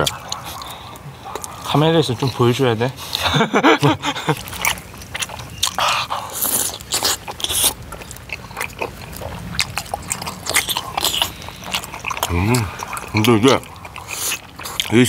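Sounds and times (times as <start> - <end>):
people chewing: 0.0 - 15.0.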